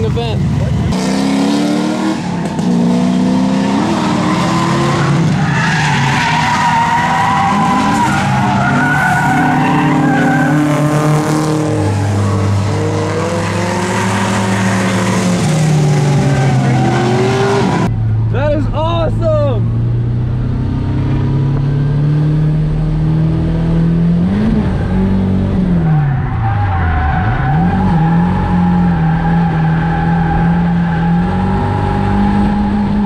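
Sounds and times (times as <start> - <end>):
car engine revving: 0.0 - 33.0
tyres skidding and squealing: 0.0 - 33.0.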